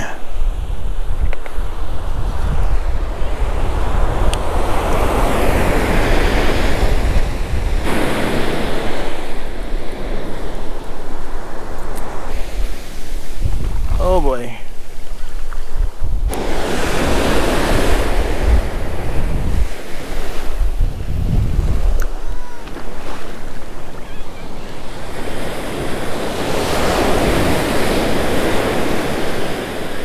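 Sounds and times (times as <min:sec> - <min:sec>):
ocean surf breaking: 0:00.0 - 0:15.5, 0:16.2 - 0:30.0
wind buffeting microphone: 0:00.3 - 0:30.0.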